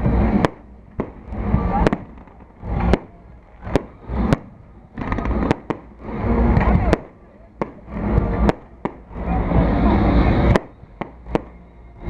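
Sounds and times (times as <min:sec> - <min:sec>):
fireworks bangs: 0:00.0 - 0:12.0
rising rush of fireworks: 0:00.0 - 0:12.0.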